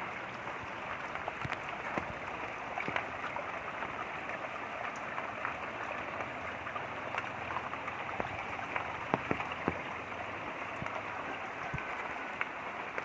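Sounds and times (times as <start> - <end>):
light rain with drips: 0.0 - 13.0
running water: 0.0 - 13.0.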